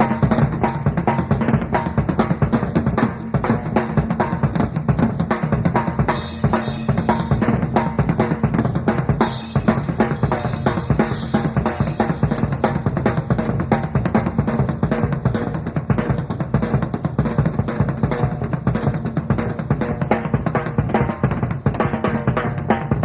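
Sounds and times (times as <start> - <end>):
rock drum kit playing: 0.0 - 23.0.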